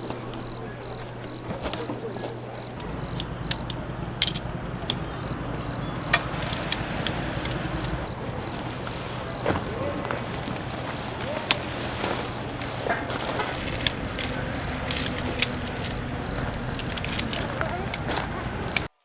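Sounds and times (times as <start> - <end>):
cricket chirping: 0.0 - 19.0
sharp clicks: 2.6 - 9.4, 10.4 - 18.9.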